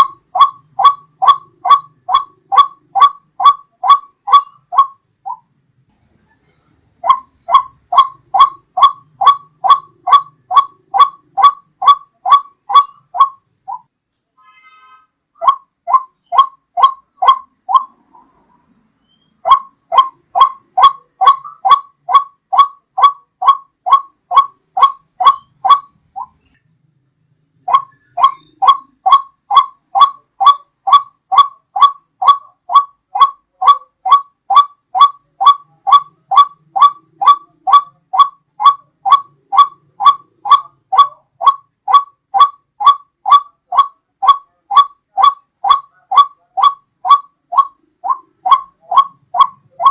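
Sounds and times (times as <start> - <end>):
waterhen calling: 0.0 - 5.5, 7.0 - 13.9, 15.4 - 18.4, 19.0 - 26.6, 27.6 - 49.9.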